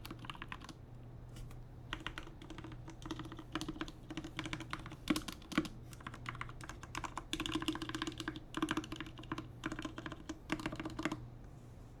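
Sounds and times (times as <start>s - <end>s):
mechanical keyboard typing: 0.0s - 0.8s, 1.9s - 11.2s.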